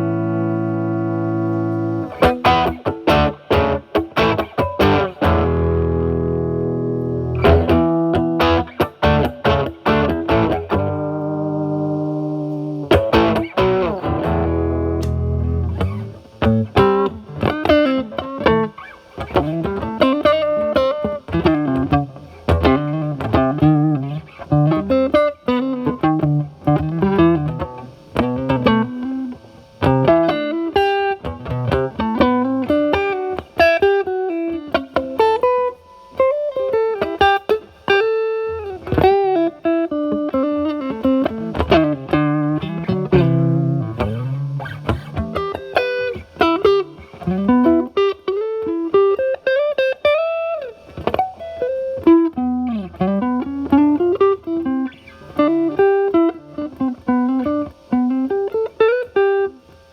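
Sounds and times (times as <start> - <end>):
overdriven electric guitar lead: 0.0 - 59.9.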